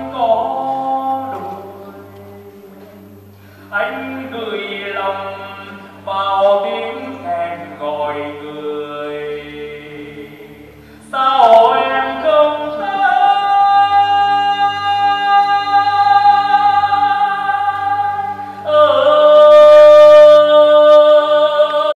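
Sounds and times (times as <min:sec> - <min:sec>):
steady musical accompaniment: 0:00.0 - 0:21.9
voice holding sliding notes: 0:00.0 - 0:21.9.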